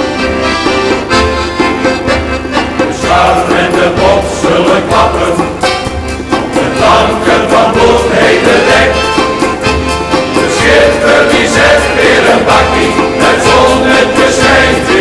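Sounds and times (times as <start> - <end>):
song with singing over a beat: 1.8 - 15.0.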